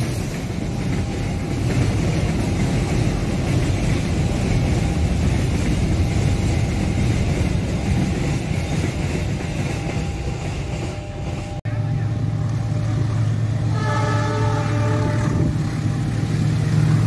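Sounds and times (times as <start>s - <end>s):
steel wheels rumbling on track: 0.0s - 17.0s.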